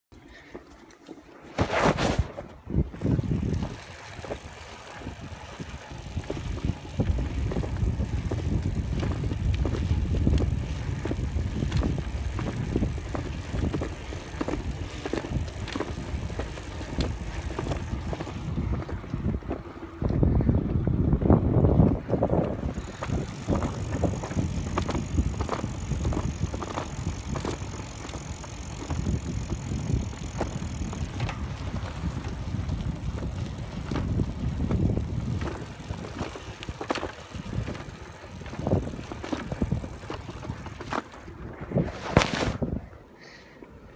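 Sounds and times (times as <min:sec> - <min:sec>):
wind on microphone: 0:01.6 - 0:43.0
bike and trailer clicks and knocks: 0:02.5 - 0:20.8, 0:21.8 - 0:41.4.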